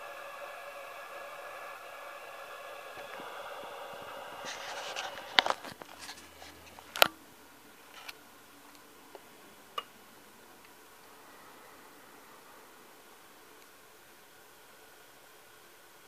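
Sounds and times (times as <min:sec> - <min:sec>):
steady hum of even tones: 0:00.0 - 0:16.0.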